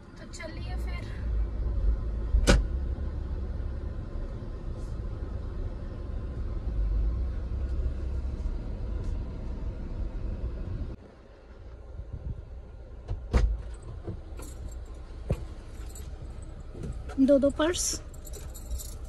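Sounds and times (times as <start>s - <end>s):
car cabin rumble: 0.3s - 11.0s, 11.6s - 19.0s.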